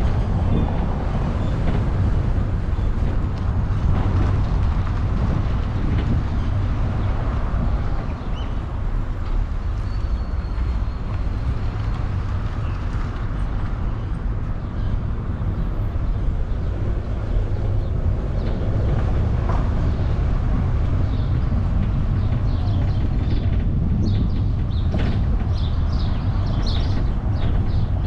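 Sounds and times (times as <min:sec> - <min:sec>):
vehicle rumbling: 0:00.0 - 0:28.0.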